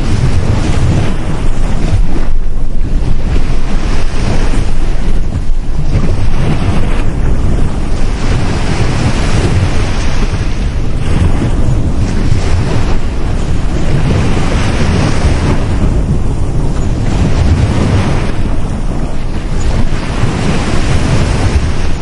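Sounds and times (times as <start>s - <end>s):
sea surf washing onto beach: 0.0s - 22.0s
wind buffeting microphone: 0.0s - 22.0s.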